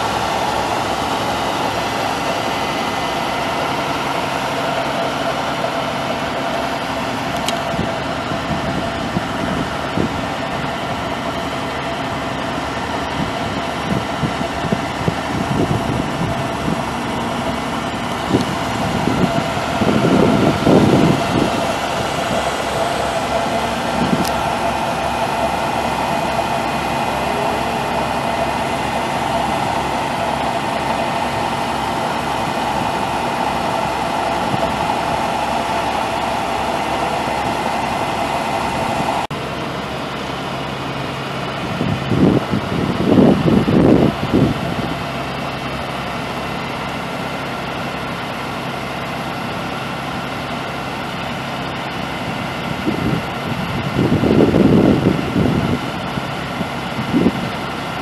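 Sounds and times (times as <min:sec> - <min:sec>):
diesel engine idling: 0:00.0 - 0:58.0
loud irregular noise: 0:00.0 - 0:58.0.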